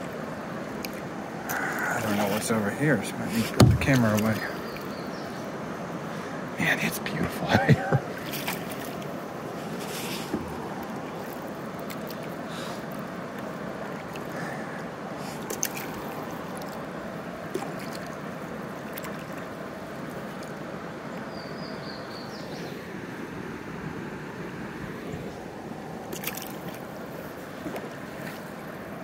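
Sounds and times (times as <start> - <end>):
river water gurgling: 0.0 - 29.0.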